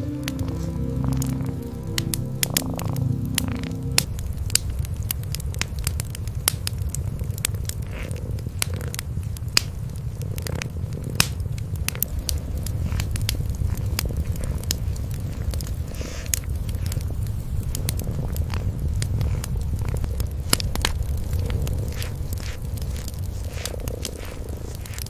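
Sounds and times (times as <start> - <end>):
cats purring: 0.0 - 25.0
wood fire crackling: 0.0 - 25.0.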